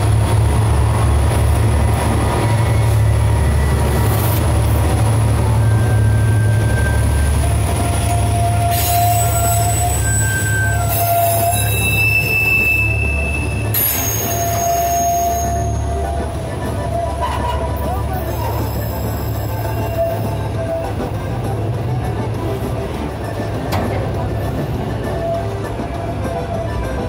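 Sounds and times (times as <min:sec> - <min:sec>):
freight train rumbling past: 0:00.0 - 0:27.0
wheels squealing on rails: 0:00.0 - 0:27.0.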